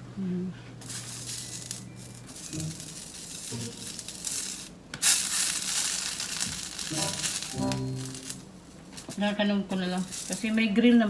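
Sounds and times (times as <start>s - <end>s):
leaves crinkling and tearing: 0.8s - 11.0s.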